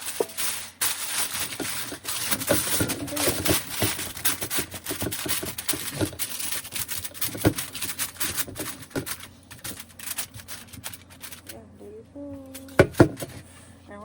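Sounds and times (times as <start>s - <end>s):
rapid clicks and rustles: 0.0s - 11.6s, 12.3s - 13.5s.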